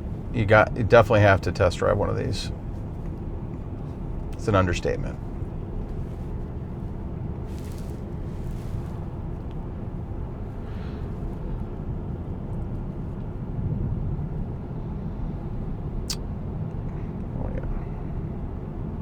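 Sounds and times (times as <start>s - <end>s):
road and tyre noise in car cabin: 0.0s - 19.0s.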